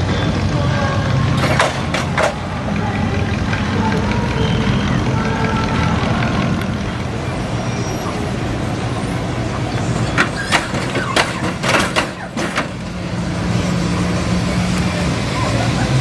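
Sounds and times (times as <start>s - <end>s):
car engines low rumble: 0.0s - 16.0s.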